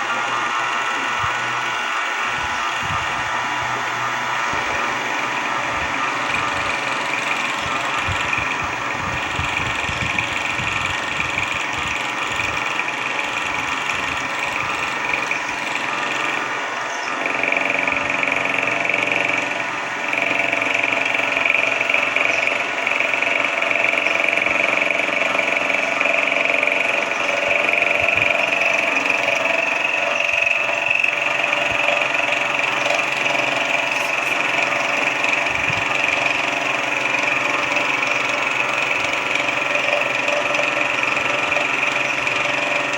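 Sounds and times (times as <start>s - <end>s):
benchtop machine tool running: 0.0s - 42.9s.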